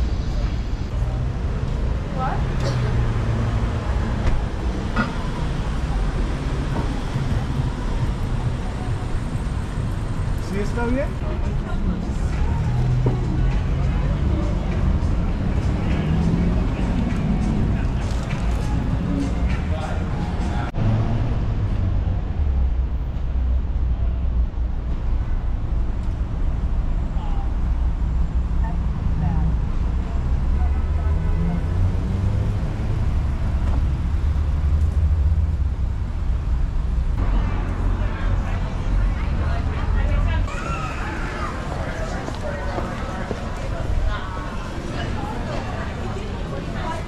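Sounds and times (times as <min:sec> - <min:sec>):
faint voices of passers-by: 0:00.0 - 0:47.0
traffic passing cars: 0:00.0 - 0:47.0.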